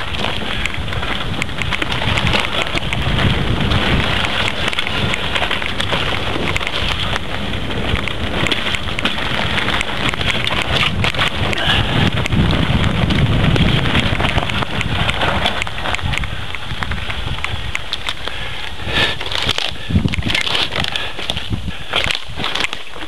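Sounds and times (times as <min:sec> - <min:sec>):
bike clicking and rattling: 0:00.0 - 0:23.0
wind on microphone: 0:00.0 - 0:23.0.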